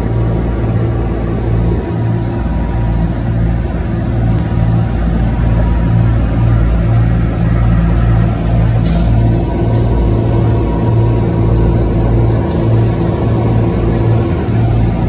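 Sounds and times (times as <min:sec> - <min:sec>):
boat engine throbbing hum: 0:00.0 - 0:15.0.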